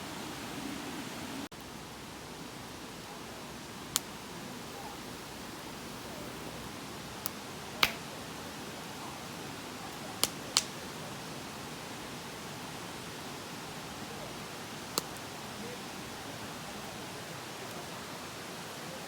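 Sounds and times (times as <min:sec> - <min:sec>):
campfire wood crackling: 0:00.0 - 0:18.7
steady hiss: 0:00.0 - 0:19.0.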